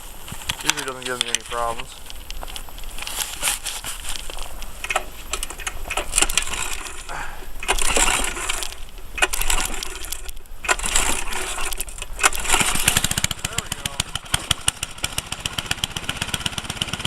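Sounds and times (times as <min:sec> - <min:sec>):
sharp metallic clicks and rattles: 0:00.0 - 0:17.0
snowblower engine cranking: 0:00.0 - 0:17.0
snowblower engine running: 0:00.0 - 0:17.0.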